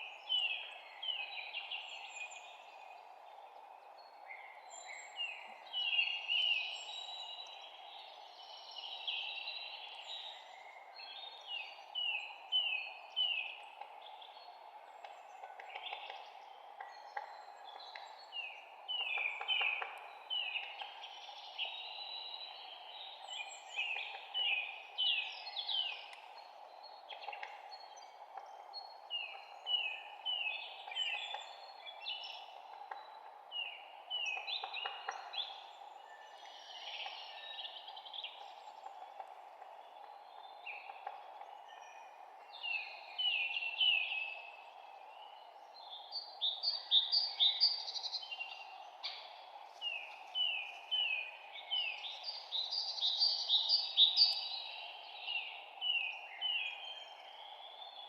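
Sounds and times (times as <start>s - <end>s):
low background hiss: 0.0s - 58.0s
songbirds chirping: 0.0s - 58.0s.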